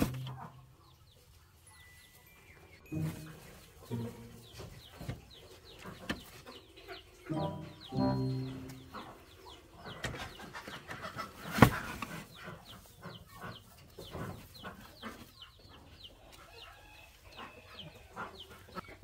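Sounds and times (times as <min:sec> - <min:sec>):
chickens clucking and peeping: 0:00.0 - 0:19.0.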